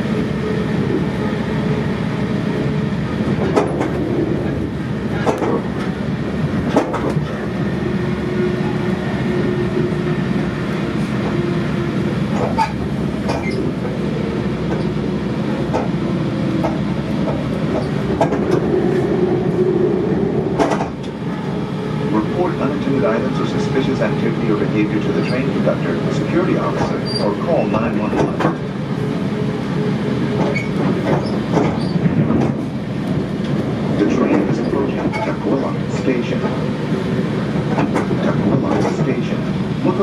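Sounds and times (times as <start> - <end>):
train rumble and hum: 0.0 - 40.0.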